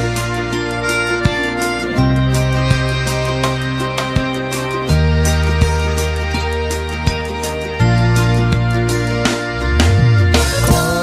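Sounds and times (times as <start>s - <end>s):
sustained chords over bass: 0.0s - 11.0s.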